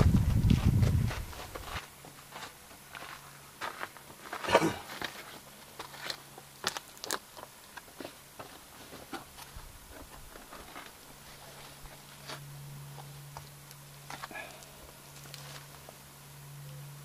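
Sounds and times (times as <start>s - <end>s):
footsteps crunching on rocky ground: 0.0s - 15.8s.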